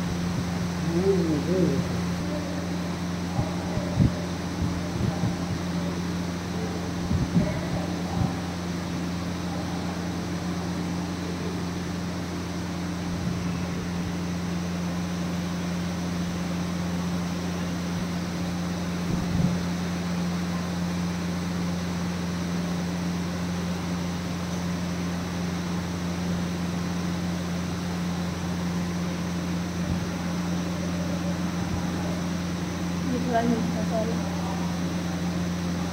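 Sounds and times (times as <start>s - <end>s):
machinery humming: 0.0s - 35.9s.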